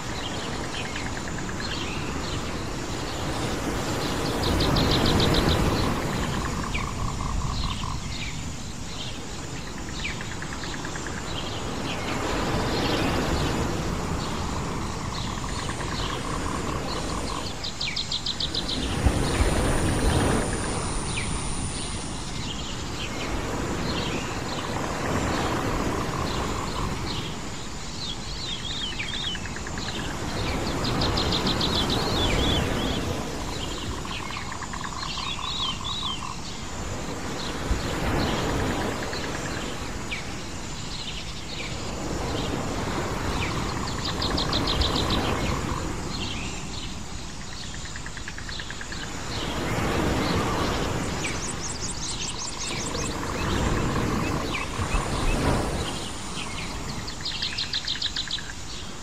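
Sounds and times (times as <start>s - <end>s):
surf washing in: 0.0s - 47.8s, 48.8s - 59.0s
birds chirping: 0.1s - 59.0s.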